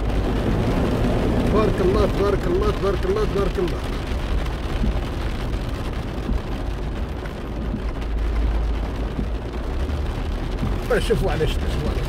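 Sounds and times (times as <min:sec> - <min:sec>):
car engine and tyres rumbling: 0:00.0 - 0:12.0
rain hissing on car and road: 0:00.0 - 0:12.0.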